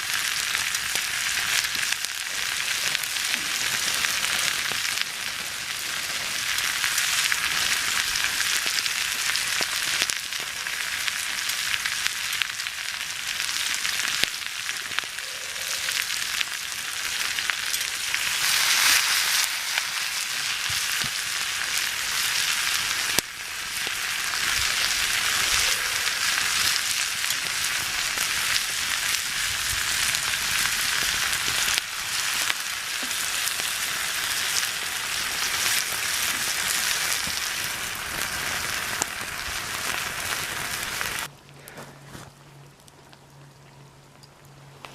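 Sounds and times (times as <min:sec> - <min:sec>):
stir fry sizzling in a pan: 0:00.0 - 0:41.3.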